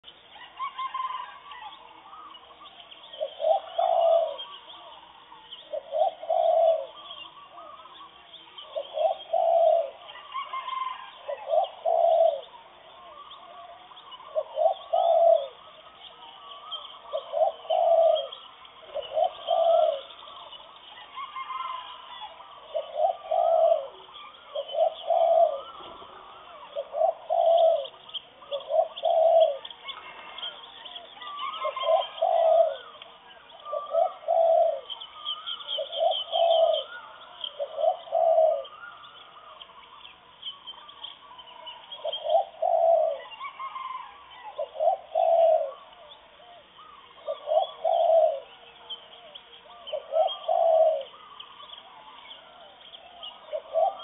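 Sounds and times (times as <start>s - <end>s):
birds chirping: 0.0s - 54.0s
low cooing bird call: 0.0s - 54.0s.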